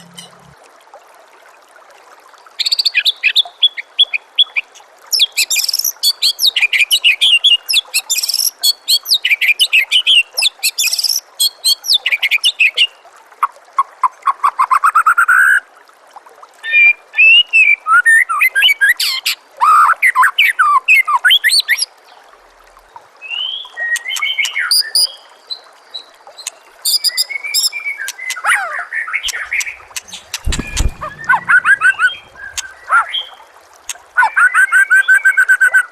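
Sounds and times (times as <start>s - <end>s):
running water trickling: 0.0s - 35.9s.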